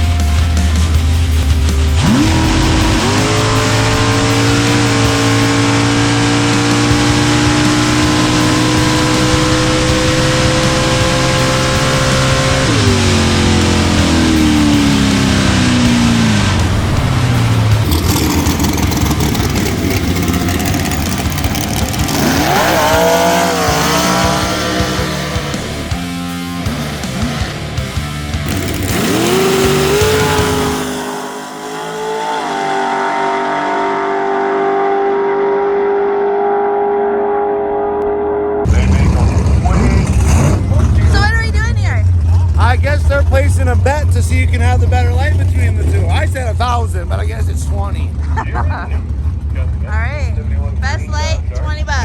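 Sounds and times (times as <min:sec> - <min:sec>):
drag car engine revving: 0:00.0 - 0:52.0.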